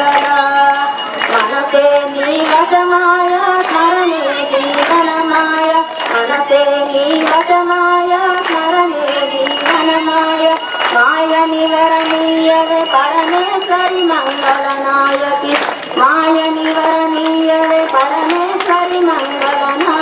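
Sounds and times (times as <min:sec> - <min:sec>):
bell ringing: 0:00.0 - 0:20.0
woman singing devotional song: 0:00.0 - 0:20.0.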